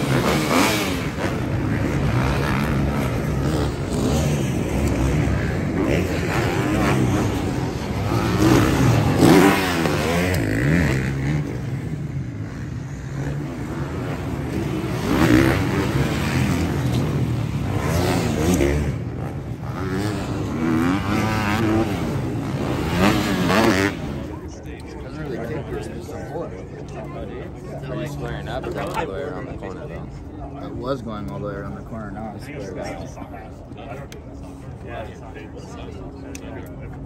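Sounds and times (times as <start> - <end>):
motocross bike engines revving: 0.0 - 37.0.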